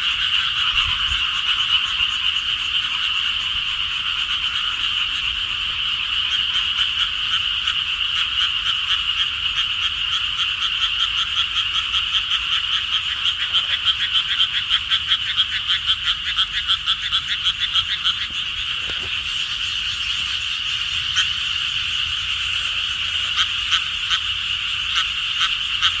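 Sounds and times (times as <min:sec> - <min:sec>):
frogs croaking: 0:00.0 - 0:26.0.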